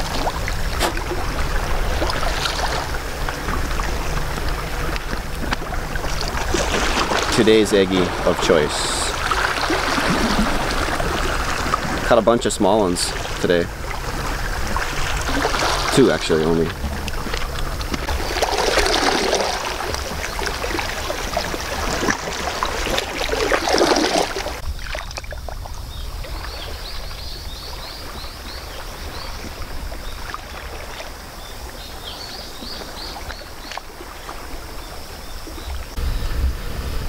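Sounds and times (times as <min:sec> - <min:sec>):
sea water lapping against rocks: 0:00.0 - 0:36.0
wind rumbling on microphone: 0:00.0 - 0:37.0.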